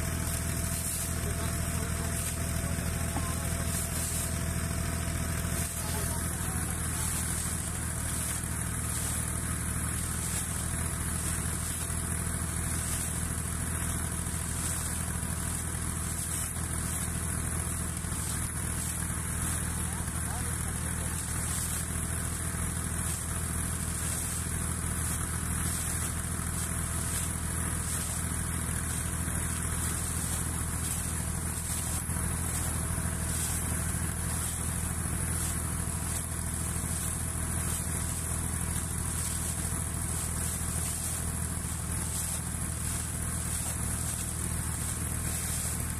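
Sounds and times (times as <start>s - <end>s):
air compressor droning: 0.0s - 45.9s
water gushing from pipe: 0.0s - 45.9s.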